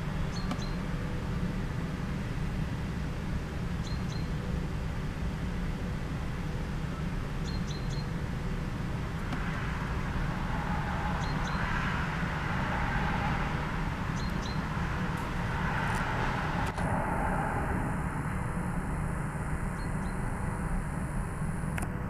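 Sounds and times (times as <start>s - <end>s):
distant freight train rumble: 0.0s - 21.4s.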